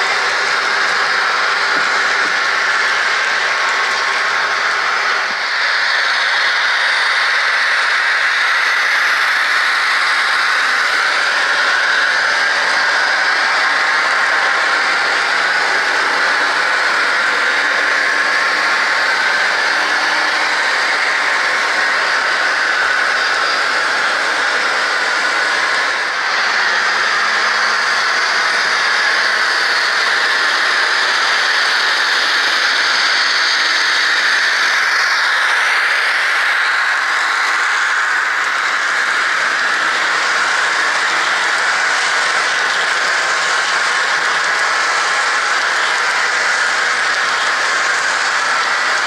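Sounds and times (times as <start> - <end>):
model train whirring on rails: 0.0 - 49.0.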